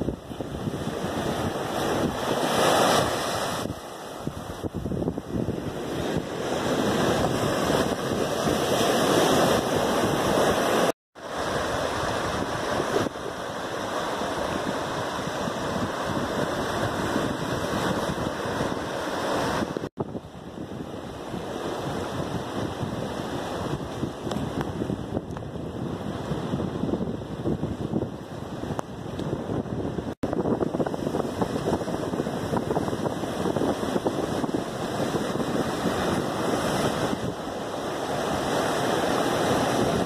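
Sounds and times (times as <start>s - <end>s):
surf breaking on shore: 0.0s - 40.0s
wind buffeting microphone: 0.0s - 40.0s.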